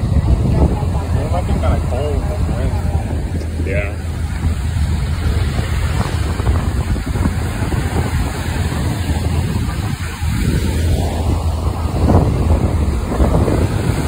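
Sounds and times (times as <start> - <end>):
breaking surf: 0.0 - 14.0
wind buffeting microphone: 0.0 - 14.0.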